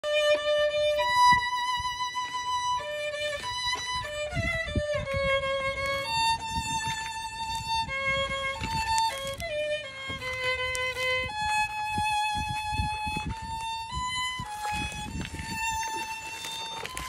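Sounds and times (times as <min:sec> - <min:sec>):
solo violin slow melody: 0:00.0 - 0:17.0.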